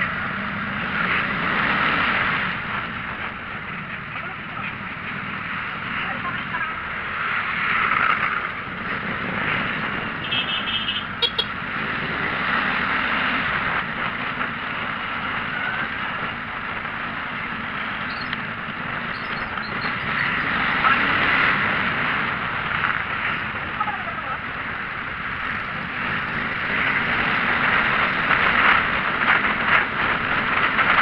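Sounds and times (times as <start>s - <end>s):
engine and tyre rumble: 0.0s - 31.0s
wind and road noise: 0.0s - 31.0s.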